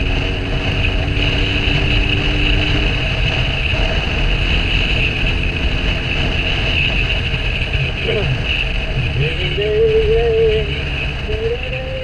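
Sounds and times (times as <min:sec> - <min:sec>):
road noise hiss: 0:00.0 - 0:12.0
wind buffeting: 0:00.0 - 0:12.0.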